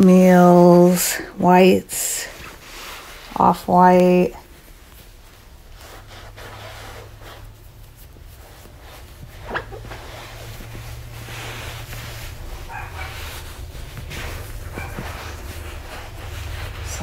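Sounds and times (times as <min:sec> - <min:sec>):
cloth rustling: 0:00.0 - 0:17.0
low steady hum: 0:00.0 - 0:17.0.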